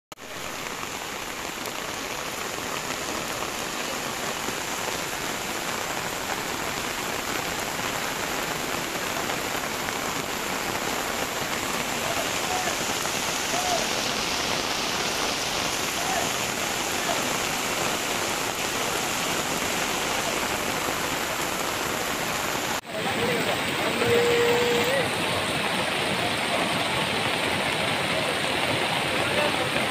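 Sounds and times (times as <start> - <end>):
heavy rain pouring: 0.1 - 29.9.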